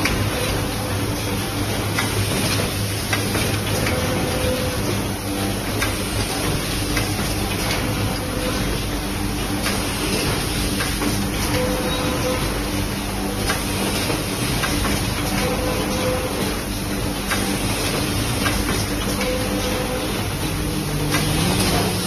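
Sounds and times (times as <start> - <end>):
machine clatter and hum: 0.0 - 22.0.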